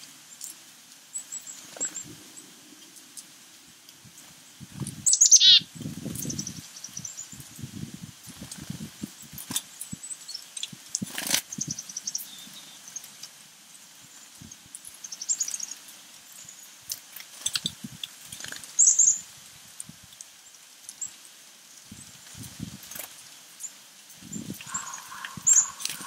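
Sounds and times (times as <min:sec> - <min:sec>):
small birds chirping: 0:00.0 - 0:19.3, 0:20.2 - 0:26.0.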